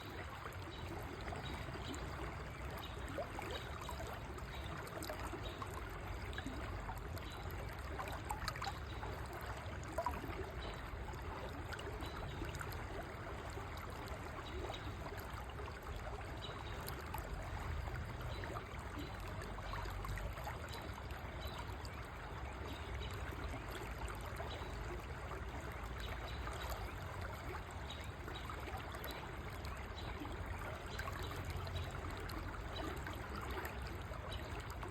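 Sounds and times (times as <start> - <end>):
river water flowing: 0.0 - 34.9
small water splashes: 0.0 - 34.9.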